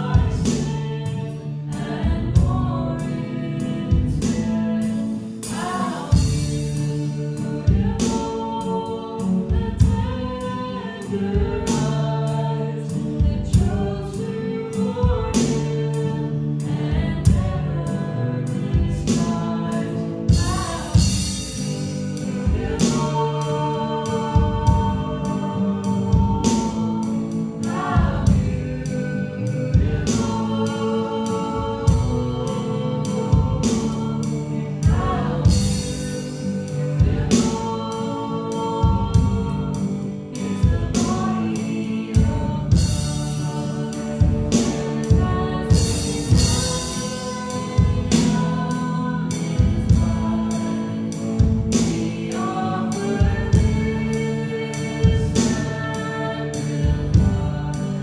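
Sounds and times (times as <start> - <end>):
drum kit beat: 0.0 - 3.0, 3.6 - 10.5, 11.3 - 12.5, 18.7 - 58.0
voices singing over a band: 0.0 - 58.0.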